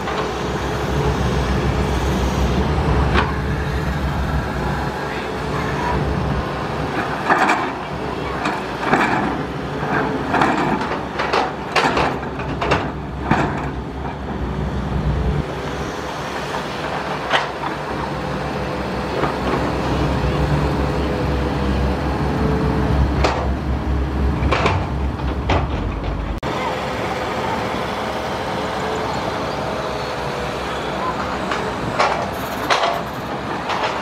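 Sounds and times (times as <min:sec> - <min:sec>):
excavator diesel engine under load: 0:00.0 - 0:34.0.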